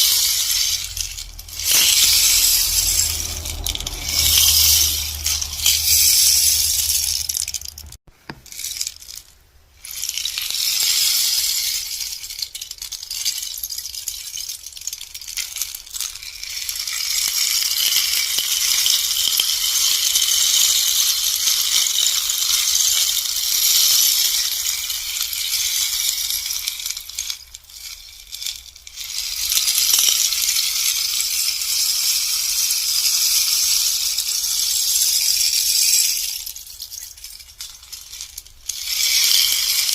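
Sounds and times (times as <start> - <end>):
rainstick rattling: 0.0 - 39.9.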